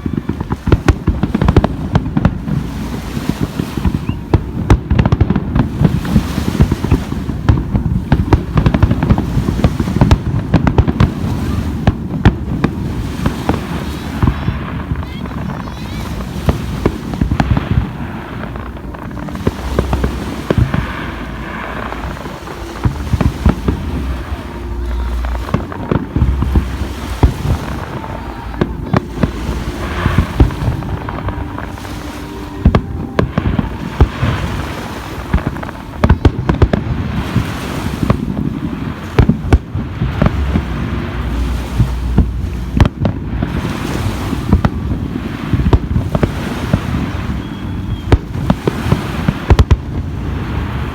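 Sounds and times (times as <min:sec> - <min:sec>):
fireworks cracks and booms: 0:00.0 - 0:50.9.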